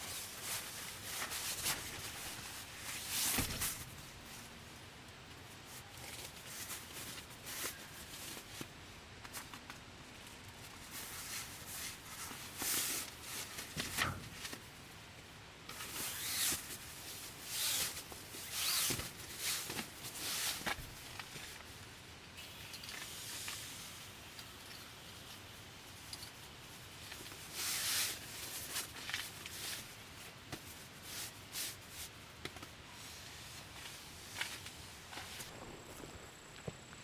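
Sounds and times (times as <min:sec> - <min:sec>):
soft rustling and handling: 0:00.0 - 0:35.6.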